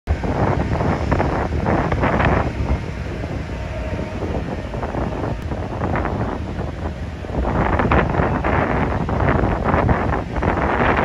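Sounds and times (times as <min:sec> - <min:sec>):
diesel freight locomotives rumbling: 0:00.1 - 0:11.0
wind buffeting microphone: 0:00.1 - 0:11.0.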